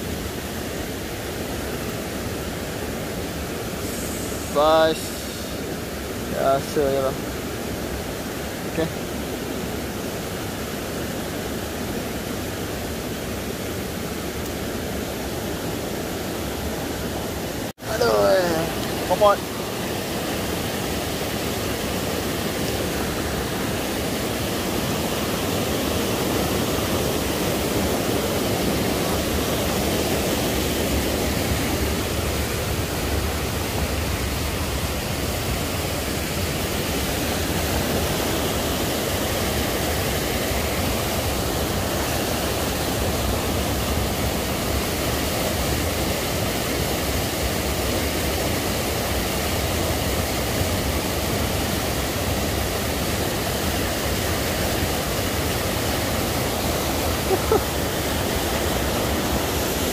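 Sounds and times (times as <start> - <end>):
waterfall rushing over rocks: 0.0 - 59.9.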